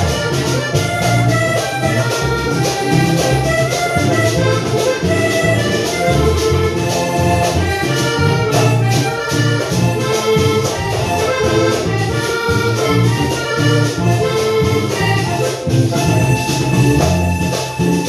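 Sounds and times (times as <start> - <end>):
upbeat music with percussion: 0.0 - 18.0.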